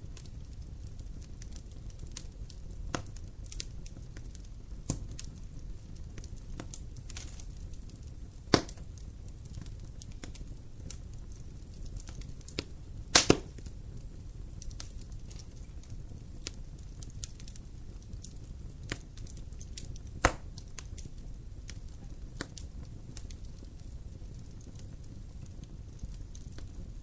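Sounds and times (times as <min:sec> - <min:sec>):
wood fire crackling: 0:00.0 - 0:27.0
sharp fire pops: 0:00.1 - 0:27.0.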